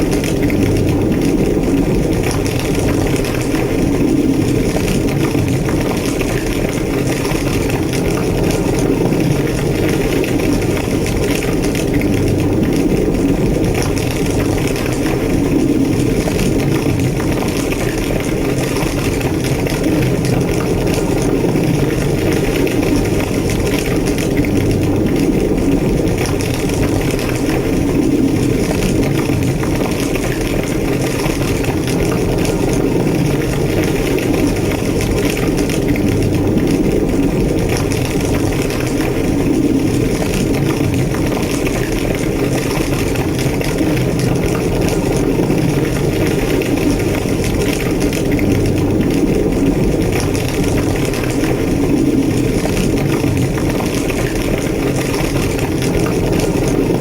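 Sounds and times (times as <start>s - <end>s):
large fire roaring and crackling: 0.0s - 57.0s.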